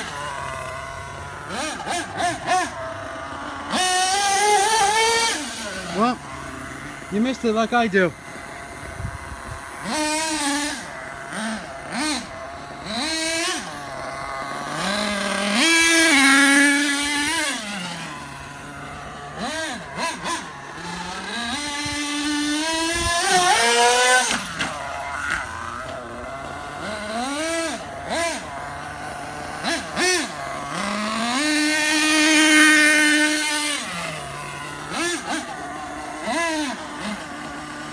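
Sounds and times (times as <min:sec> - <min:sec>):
model engine revving: 0:00.0 - 0:37.9.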